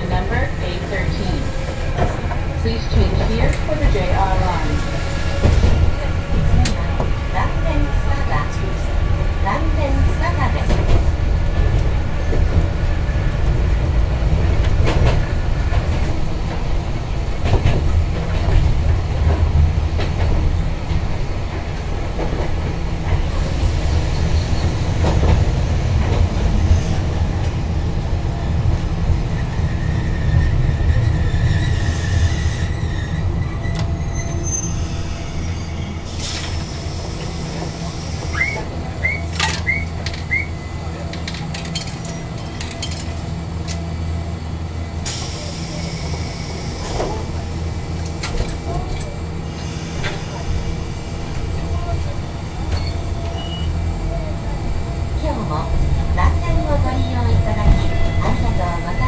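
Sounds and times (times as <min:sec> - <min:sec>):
tram running rumble: 0:00.0 - 0:59.0.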